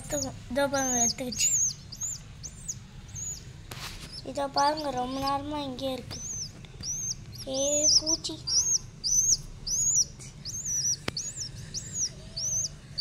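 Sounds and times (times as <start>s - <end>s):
young bird chirping: 0.0s - 13.0s.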